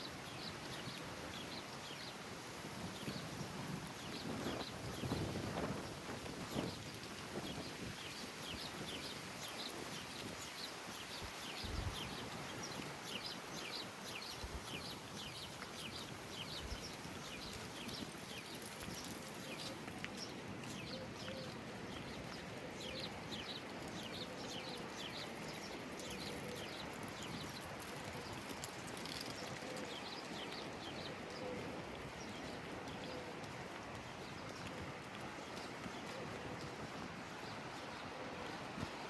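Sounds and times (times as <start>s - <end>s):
small birds chirping: 0.0s - 2.2s, 2.8s - 3.4s, 4.0s - 39.0s.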